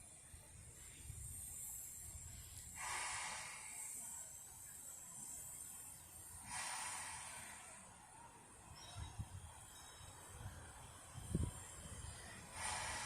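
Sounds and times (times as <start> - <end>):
steady high hiss: 0.0 - 13.0
steam locomotive hissing bursts: 0.0 - 13.0.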